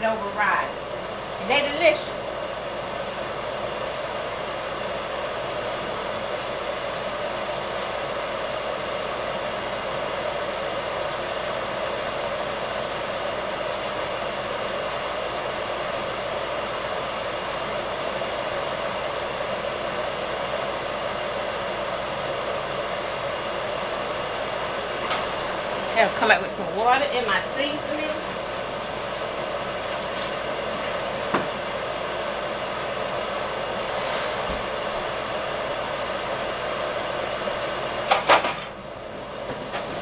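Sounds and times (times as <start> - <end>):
food frying with faint crackles: 0.0 - 33.6.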